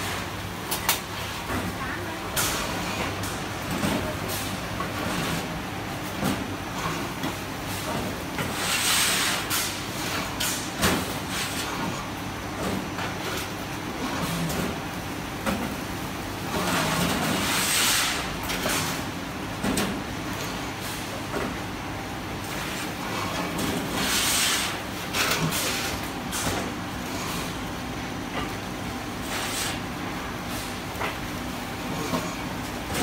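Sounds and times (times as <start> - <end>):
conveyor line humming: 0.0 - 33.0.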